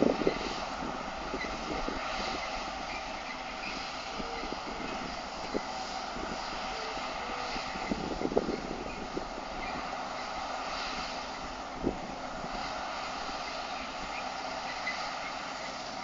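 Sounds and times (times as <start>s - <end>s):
combine harvester drone: 0.0s - 16.0s.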